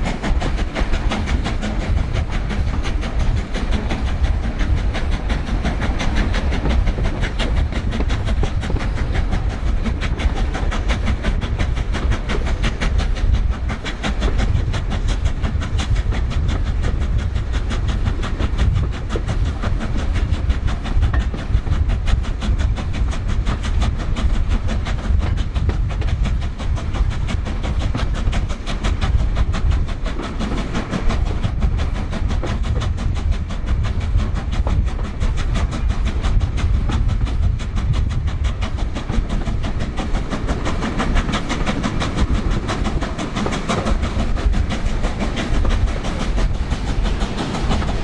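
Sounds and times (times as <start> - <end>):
steam locomotive exhaust beats: 0.0 - 48.0
train rumbling on rails: 0.0 - 48.0.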